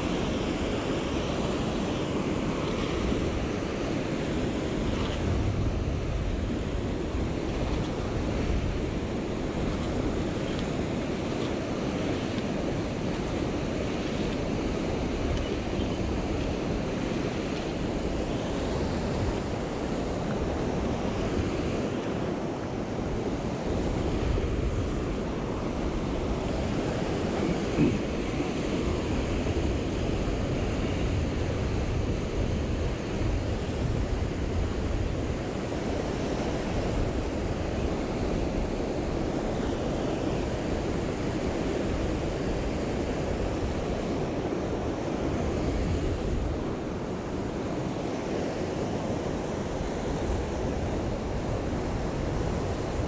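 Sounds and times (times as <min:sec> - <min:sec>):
wind buffeting microphone: 0:00.0 - 0:48.0
river water over rapids: 0:00.0 - 0:53.0.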